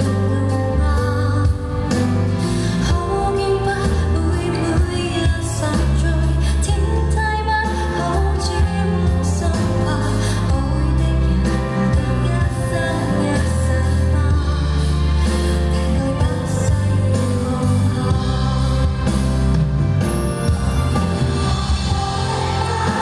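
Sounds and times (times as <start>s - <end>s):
band accompaniment with bass: 0.0s - 23.0s
woman singing pop song live: 0.0s - 23.0s.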